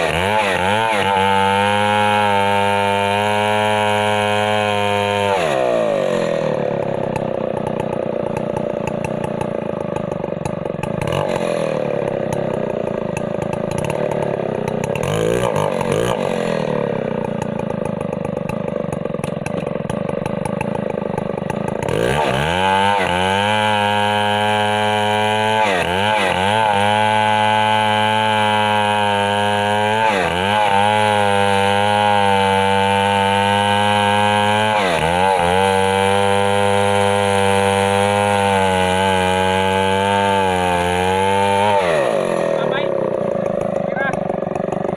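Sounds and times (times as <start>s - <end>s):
chainsaw running under load: 0.0s - 44.9s.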